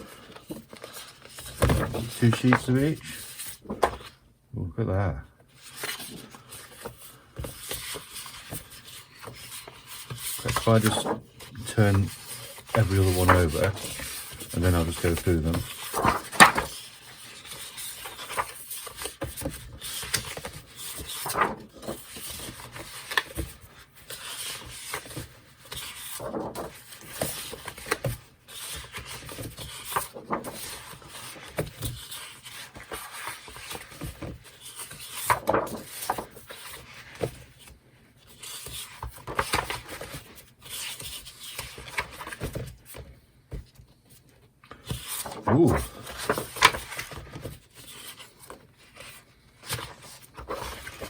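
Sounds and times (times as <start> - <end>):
paper rustling and sliding: 0.0 - 4.2, 5.5 - 51.0.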